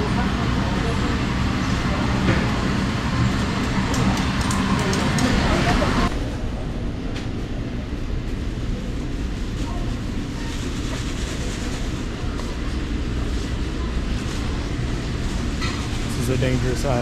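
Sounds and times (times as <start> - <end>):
supermarket background rumble: 0.0 - 17.0.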